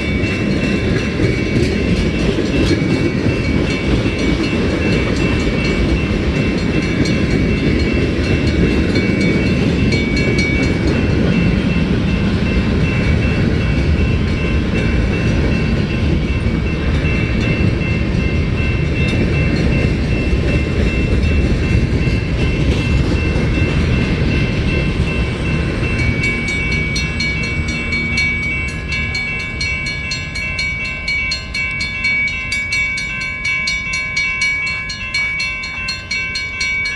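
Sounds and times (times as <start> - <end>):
train wheels clicking: 0.0 - 36.9
train wheels rumbling on rail: 0.0 - 36.9.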